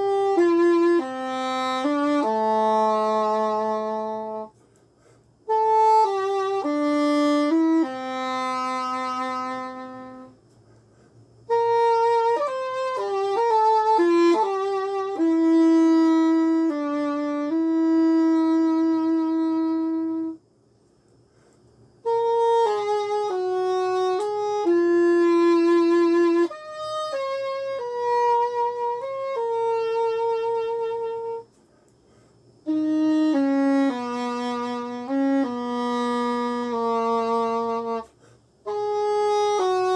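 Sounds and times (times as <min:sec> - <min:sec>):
solo english horn melody: 0:00.0 - 0:10.5, 0:11.4 - 0:20.5, 0:22.0 - 0:39.9.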